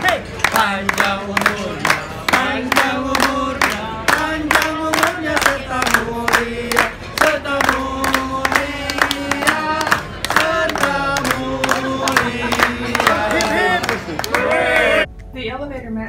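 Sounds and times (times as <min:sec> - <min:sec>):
rhythmic clapping: 0:00.0 - 0:14.6
group singing a birthday song: 0:00.0 - 0:15.1.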